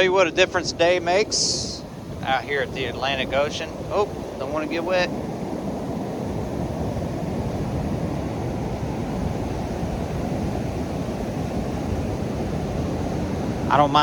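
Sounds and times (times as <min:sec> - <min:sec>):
surf washing up beach: 0:00.0 - 0:14.0.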